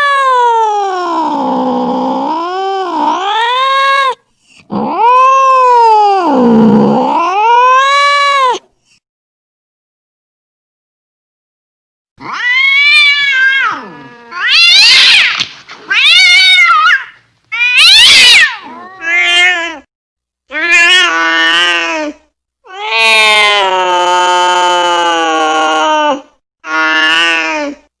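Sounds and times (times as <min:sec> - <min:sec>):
cat yowling: 0:00.0 - 0:08.6, 0:12.2 - 0:19.9, 0:20.5 - 0:22.1, 0:22.7 - 0:27.6.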